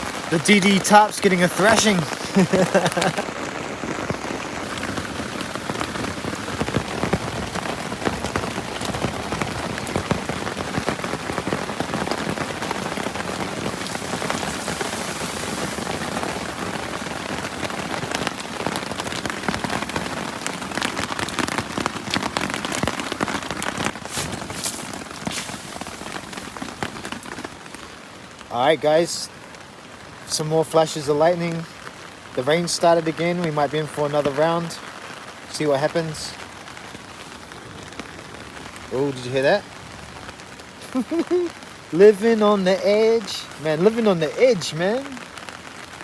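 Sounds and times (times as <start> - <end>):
heavy rain on tarp: 0.0 - 46.0.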